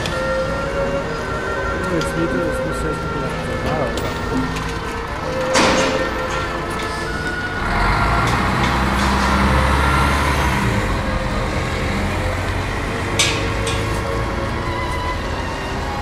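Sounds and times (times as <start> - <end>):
background music: 0.0 - 16.0
heavy engine rumble: 0.0 - 16.0.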